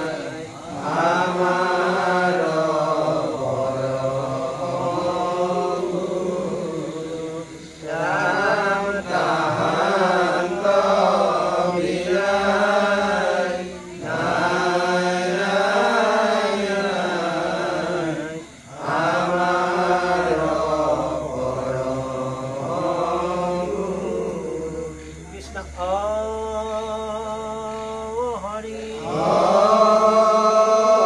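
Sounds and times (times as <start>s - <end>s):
devotional chanting voices: 0.0s - 31.0s.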